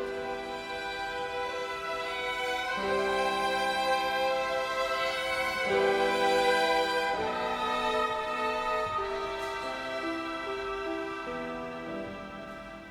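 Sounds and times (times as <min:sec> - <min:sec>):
violin ensemble playing chords: 0:00.0 - 0:12.9.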